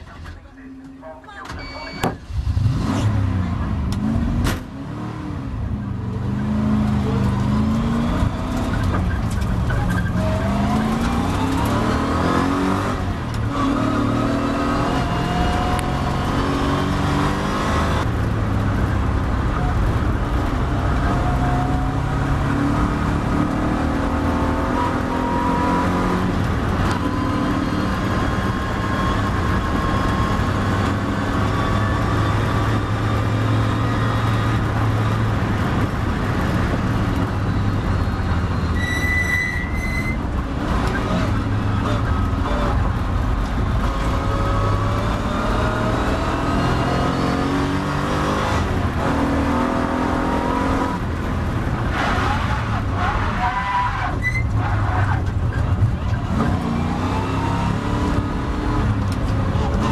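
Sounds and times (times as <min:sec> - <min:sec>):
race car engine accelerating: 0:02.2 - 0:38.8, 0:40.3 - 0:59.9.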